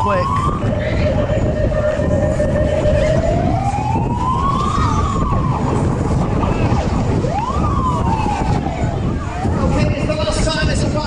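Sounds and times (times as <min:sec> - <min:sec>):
siren-like wail: 0:00.0 - 0:10.1
wind rumble on microphone: 0:00.0 - 0:11.0.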